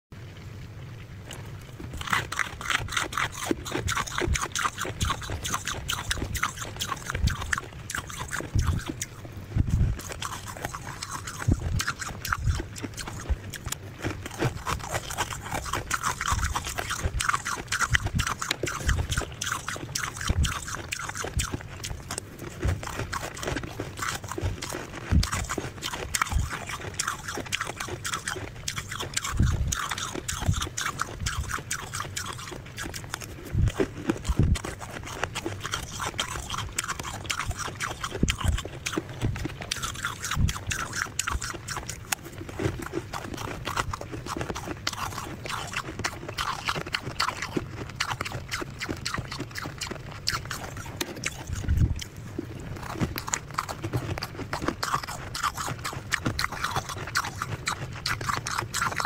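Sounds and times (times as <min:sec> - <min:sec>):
crisp crunching of frost: 0:01.2 - 0:59.0.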